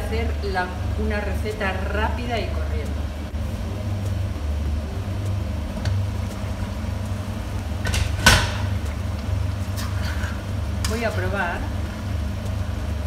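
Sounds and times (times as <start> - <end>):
stove low rumble: 0.0 - 13.0.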